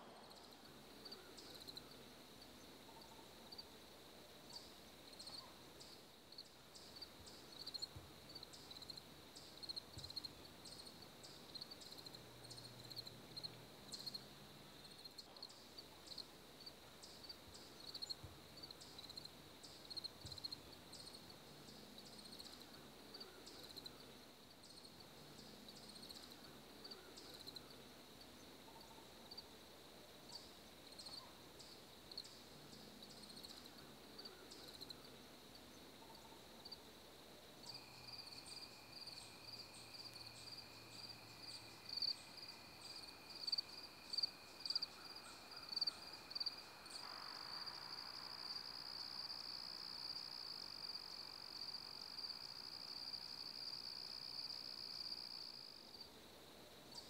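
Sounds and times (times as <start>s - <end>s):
crickets chirping: 0.0s - 57.0s
low insect trill: 4.4s - 29.6s, 30.3s - 36.9s, 37.6s - 56.1s.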